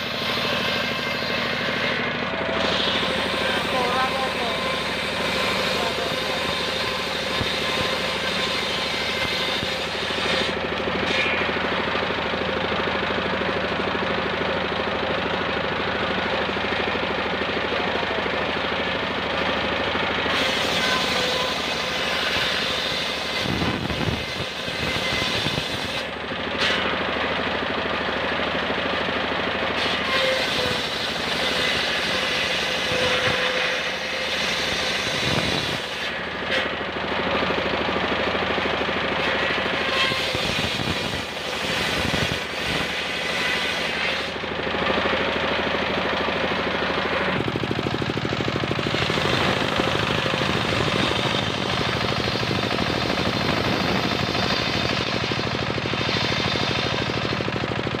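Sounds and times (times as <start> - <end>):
circular saw cutting wood: 0.0 - 58.0.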